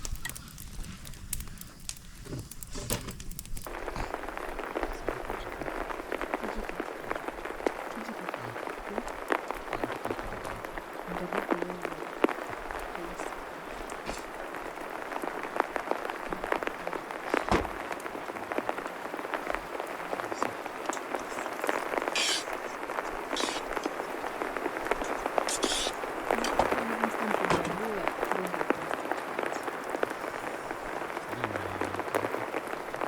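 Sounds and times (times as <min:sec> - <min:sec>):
rain patter: 0:00.0 - 0:33.0.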